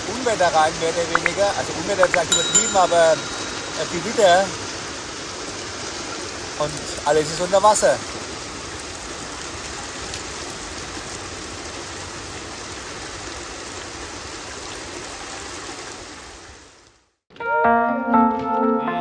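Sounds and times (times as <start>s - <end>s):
heavy rain pouring: 0.0s - 16.8s.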